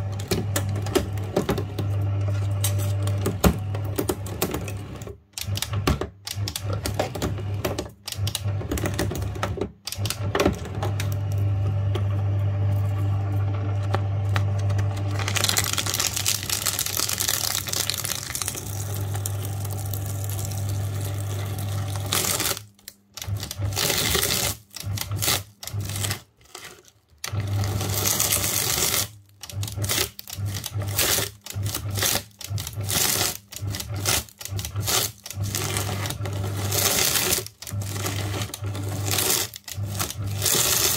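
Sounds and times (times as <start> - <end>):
paper shredder motor cutting: 0.0 - 40.9.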